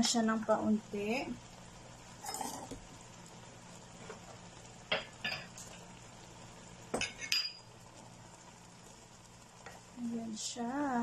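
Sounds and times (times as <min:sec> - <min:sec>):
caramel sizzling in a pan: 0:00.0 - 0:11.0.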